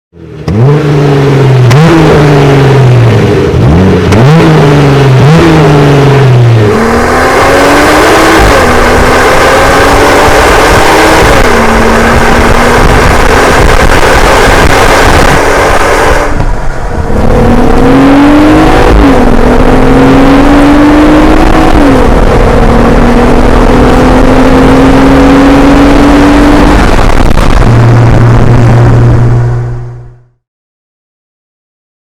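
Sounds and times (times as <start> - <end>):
car engine accelerating through gears: 0.2 - 30.4.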